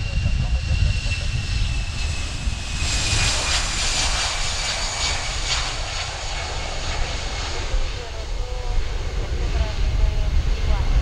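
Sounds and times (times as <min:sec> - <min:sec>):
jet engines at takeoff power: 0:00.0 - 0:11.0.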